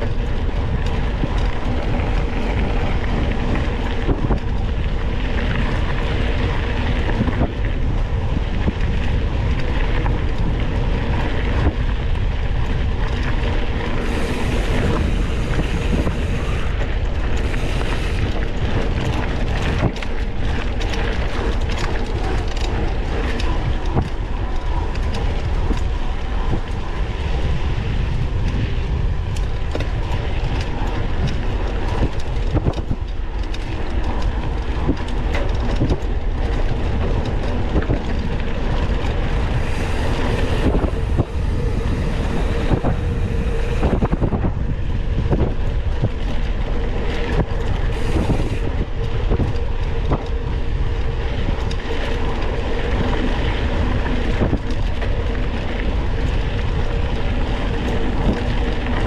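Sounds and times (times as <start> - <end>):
bike rattling and knocking: 0.0 - 59.0
bike tyres rumbling on dirt: 0.0 - 59.0
wind on microphone: 0.0 - 59.0.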